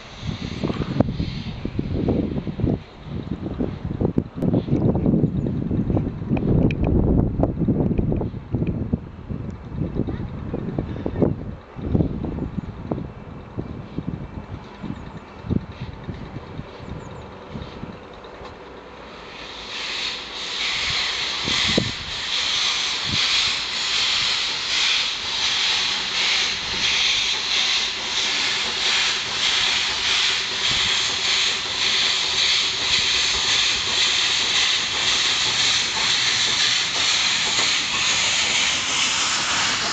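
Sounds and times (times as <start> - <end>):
steam locomotive hissing and chuffing: 0.0 - 5.2, 9.8 - 39.9.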